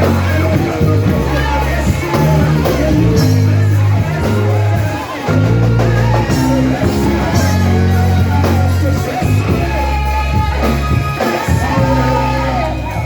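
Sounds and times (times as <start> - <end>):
voices singing along: 0.0 - 13.0
worship band with bass and guitar: 0.0 - 13.0.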